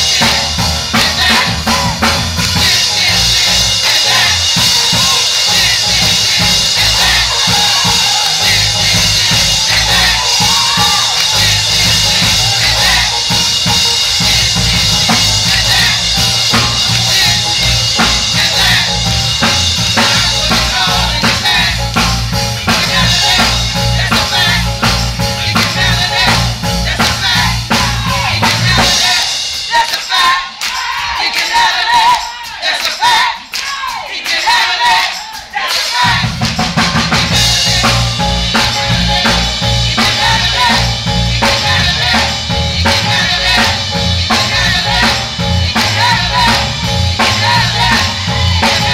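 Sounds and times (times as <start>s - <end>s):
bass: 0.0s - 29.6s, 36.0s - 48.9s
drum kit: 0.0s - 48.9s
live gospel band: 0.0s - 48.9s.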